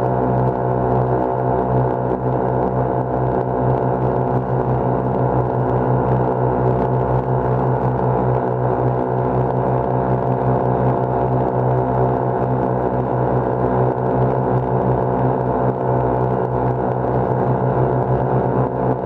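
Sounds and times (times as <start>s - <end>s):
two-stroke engines droning: 0.0s - 19.0s.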